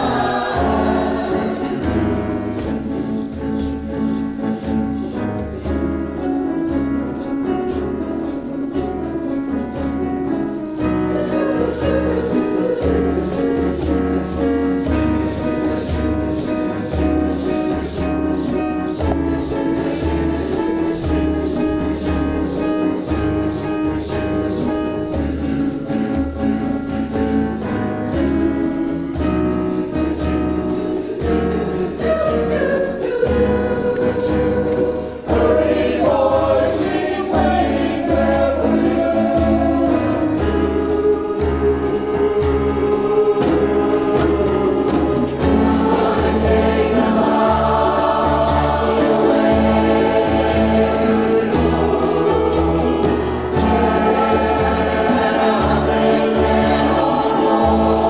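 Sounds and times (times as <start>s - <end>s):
choir singing in parts: 0.0s - 58.0s
instrumental accompaniment: 0.0s - 58.0s
light percussion: 0.0s - 58.0s.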